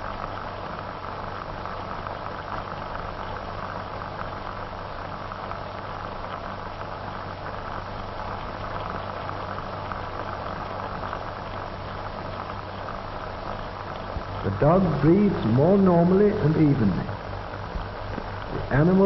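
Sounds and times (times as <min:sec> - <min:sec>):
constant low hum: 0:00.0 - 0:19.0
film soundtrack hiss: 0:00.0 - 0:19.0.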